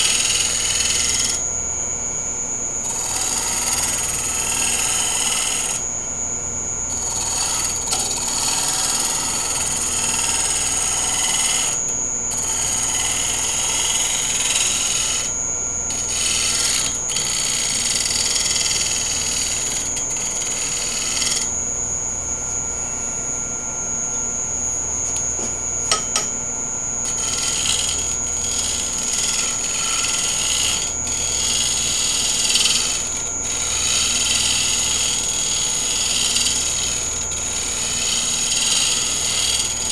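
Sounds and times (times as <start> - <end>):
wood lathe whining: 0.0 - 39.9.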